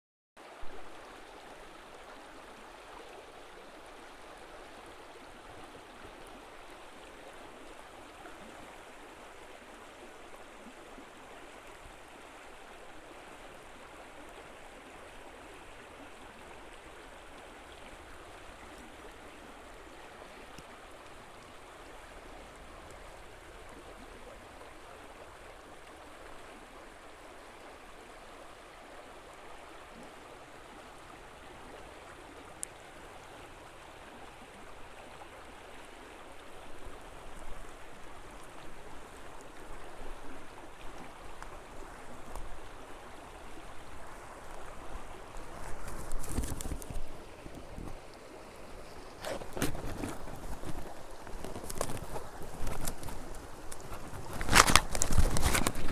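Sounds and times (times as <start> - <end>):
creek water rushing: 0.4 - 55.9.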